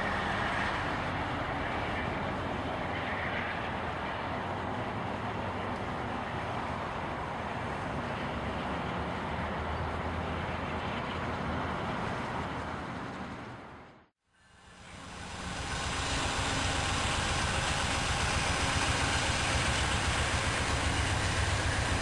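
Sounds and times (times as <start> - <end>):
train rumbling by: 0.0 - 22.0.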